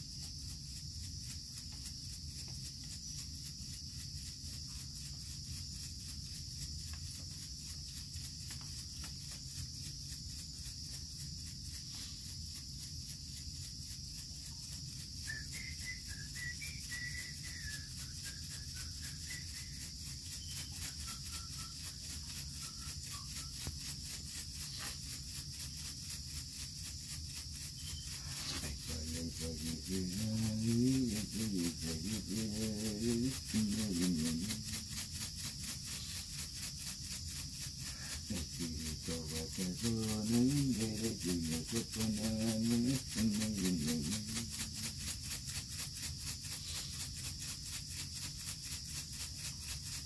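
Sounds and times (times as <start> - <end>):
high insect chorus: 0.0 - 50.0
leaf rattle shaken: 0.0 - 50.0.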